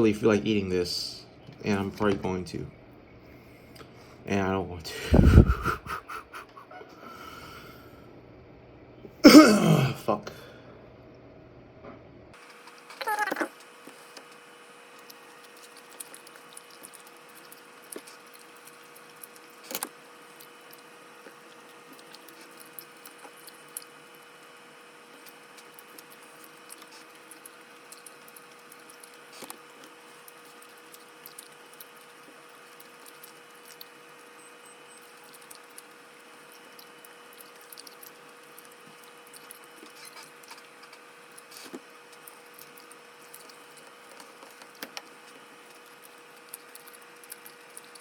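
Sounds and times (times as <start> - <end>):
faint hum: 0.0 - 48.0.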